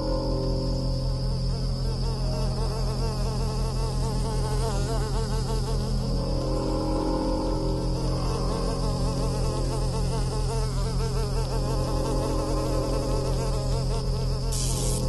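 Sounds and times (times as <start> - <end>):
low electric hum: 0.0 - 15.0
wavering wing buzzing: 0.0 - 15.0.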